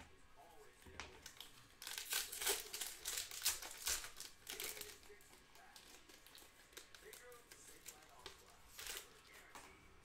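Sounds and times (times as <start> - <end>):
foil wrapper crinkling: 0.6 - 9.7.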